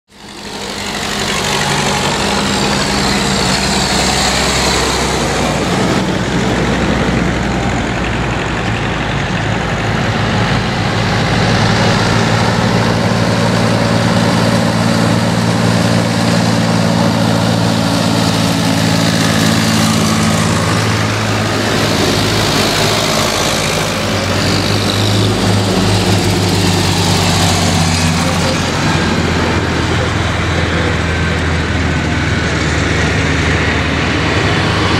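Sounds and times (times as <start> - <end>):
tractor engines driving past: 0.1 - 34.9
tyre and road noise: 0.1 - 34.9.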